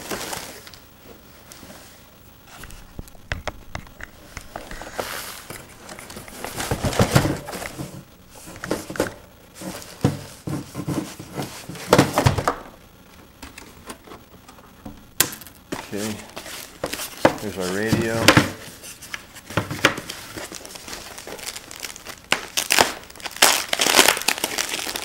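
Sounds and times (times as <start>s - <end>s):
cardboard and plastic crinkling: 0.0s - 14.8s, 15.6s - 25.0s.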